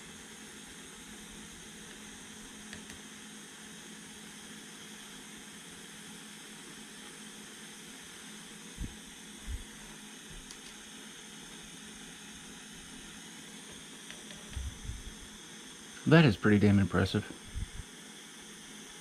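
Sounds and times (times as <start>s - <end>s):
soldering iron flame hissing: 0.0s - 19.0s.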